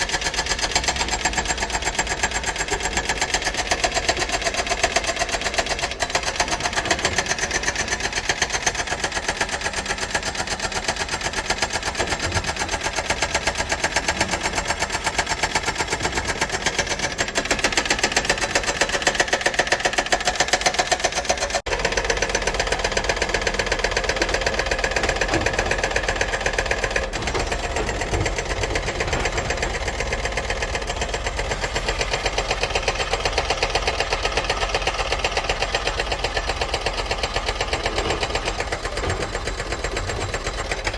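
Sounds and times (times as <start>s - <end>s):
excavator diesel engine pulsing: 0.0s - 40.9s.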